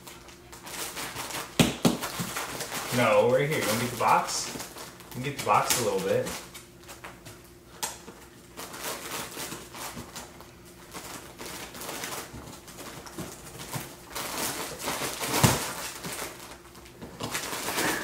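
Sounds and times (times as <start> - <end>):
plastic crinkling: 0.0 - 18.0.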